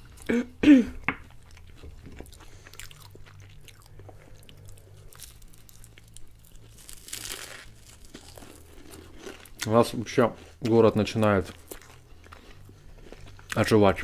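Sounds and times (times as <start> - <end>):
chewing crisp pastry: 1.2 - 14.0.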